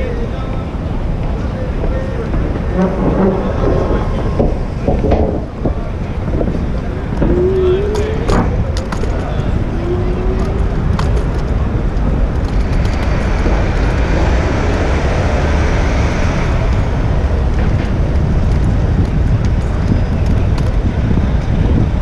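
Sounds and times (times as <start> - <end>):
city traffic: 0.0 - 22.0
wind rumbling on microphone: 0.0 - 22.0.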